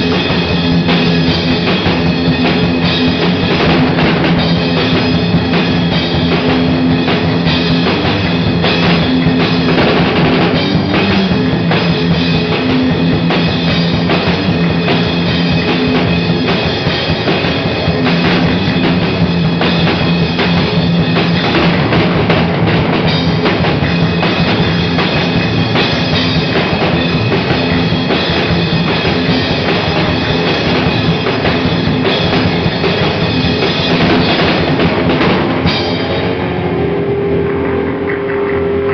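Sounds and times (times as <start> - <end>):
drum kit with cymbals: 0.0 - 37.0
electric guitars: 0.0 - 38.9.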